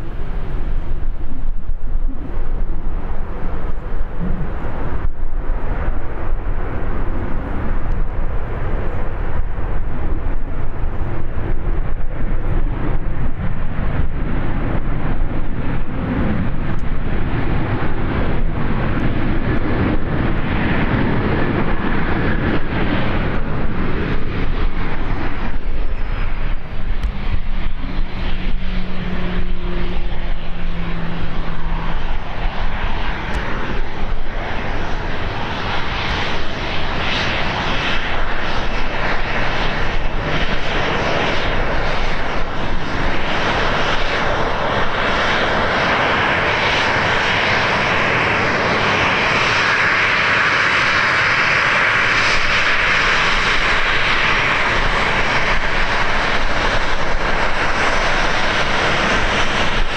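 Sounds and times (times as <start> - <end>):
jet engines roaring: 0.0 - 59.9
wind buffeting microphone: 0.0 - 59.9.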